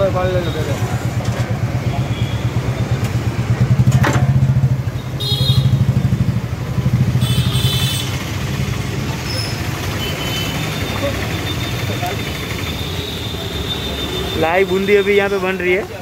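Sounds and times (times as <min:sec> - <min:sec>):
engine idling with throb: 0:00.0 - 0:15.7.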